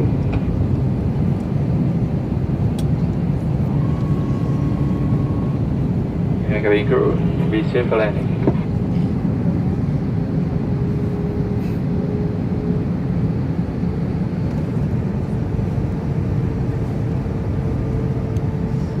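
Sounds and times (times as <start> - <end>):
jet cabin engine drone: 0.0 - 19.0.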